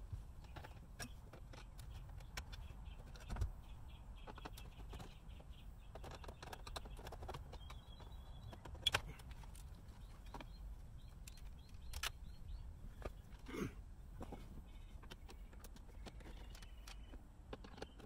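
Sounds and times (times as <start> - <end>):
birds chirping: 0.2 - 18.0.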